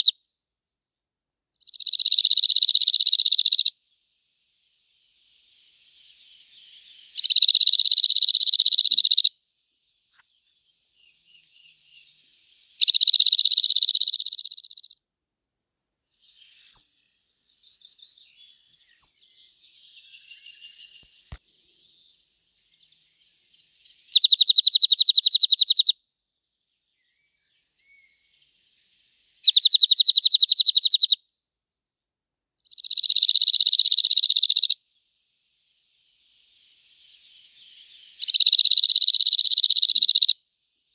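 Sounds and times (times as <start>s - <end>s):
bird twitter: 1.6s - 4.2s, 4.8s - 15.0s, 16.1s - 31.2s, 32.6s - 40.9s
songbird rattling trill: 1.6s - 15.0s, 16.2s - 31.2s, 32.7s - 40.9s
thin high bird calls: 1.6s - 15.0s, 16.2s - 31.2s, 32.6s - 40.9s.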